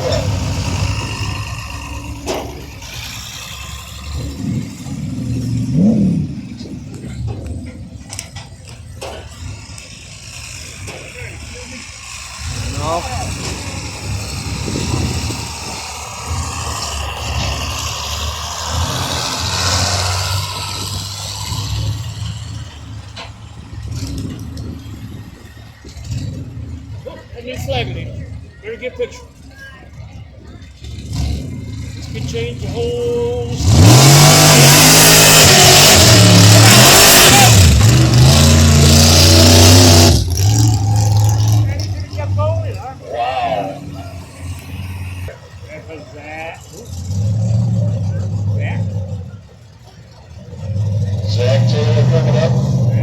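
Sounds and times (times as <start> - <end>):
throbbing engine running: 0.0 - 53.0.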